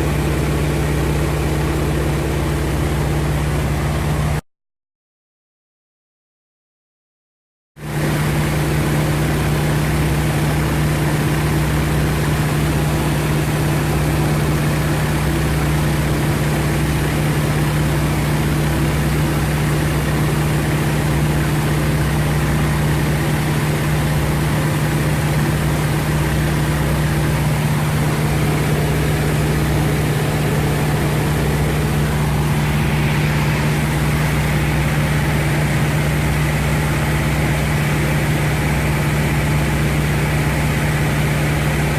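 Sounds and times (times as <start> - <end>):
propeller plane engine drone: 0.0 - 4.4, 7.8 - 41.9.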